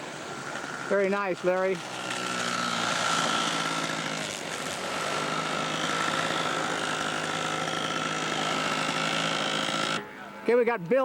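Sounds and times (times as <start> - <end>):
model plane engine running: 0.0 - 10.0.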